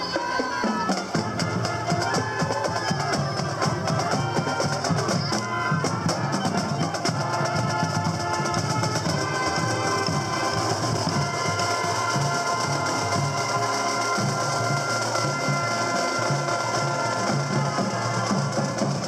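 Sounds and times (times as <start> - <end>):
bass and snare drums: 0.0 - 19.0
saxophones and brass playing: 0.0 - 19.0.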